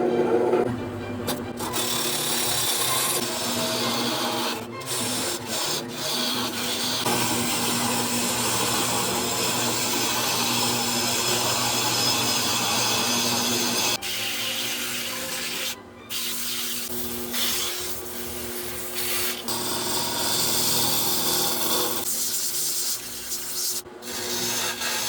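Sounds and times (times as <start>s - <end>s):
tool rasping wood: 1.3s - 25.0s.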